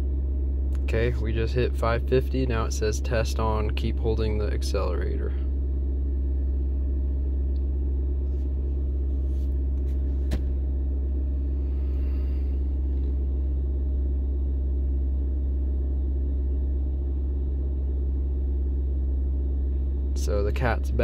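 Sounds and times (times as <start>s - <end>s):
car engine droning at raised speed: 0.0s - 21.0s.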